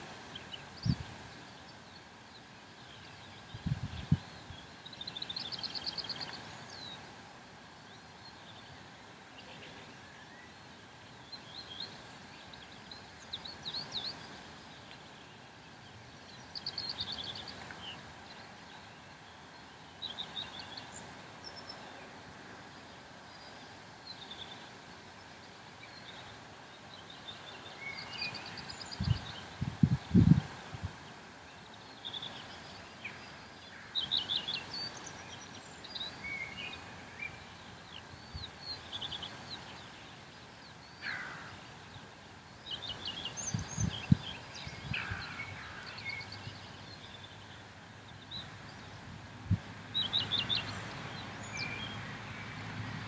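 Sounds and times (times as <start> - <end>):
open-air background hiss: 0.0 - 53.0
songbirds trilling: 0.0 - 53.0.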